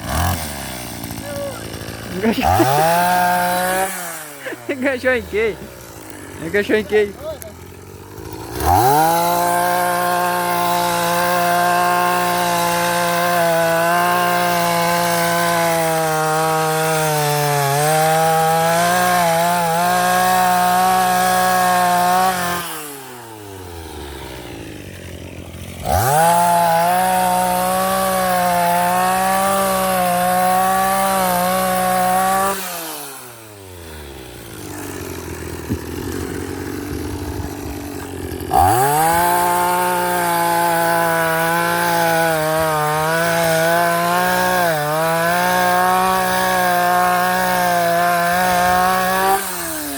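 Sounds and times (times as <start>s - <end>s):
earth auger engine drilling: 0.0s - 49.9s.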